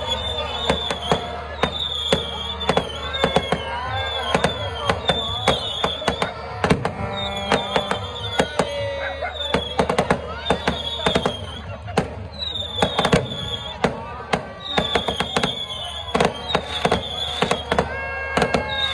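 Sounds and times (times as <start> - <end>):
fireworks bangs and crackles: 0.0 - 18.9
music: 0.0 - 18.9.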